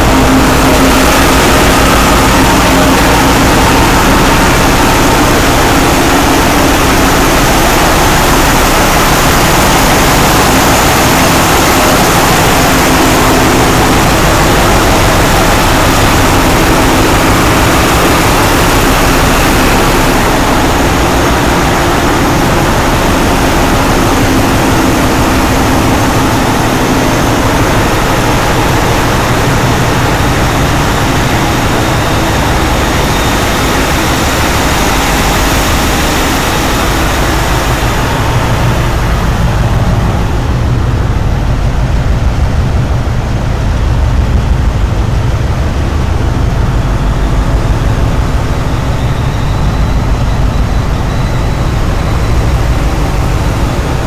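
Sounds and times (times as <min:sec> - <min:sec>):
engine room machinery din: 0:00.0 - 0:54.0.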